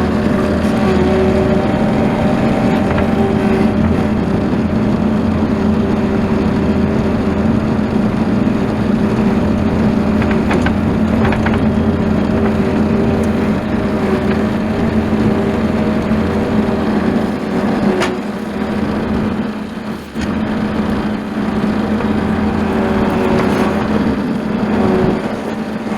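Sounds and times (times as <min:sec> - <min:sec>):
skid steer engine running: 0:00.0 - 0:25.9.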